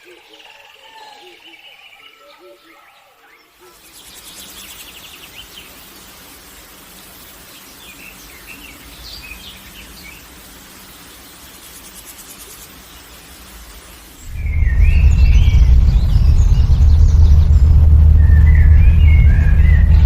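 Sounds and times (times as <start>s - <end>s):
steady outdoor hiss: 0.0s - 20.0s
high insect trill: 3.8s - 19.8s.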